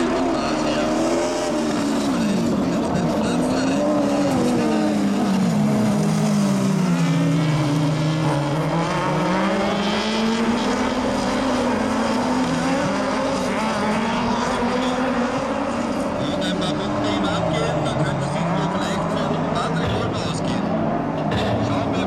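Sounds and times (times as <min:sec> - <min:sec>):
racing buggy engines revving: 0:00.0 - 0:22.0.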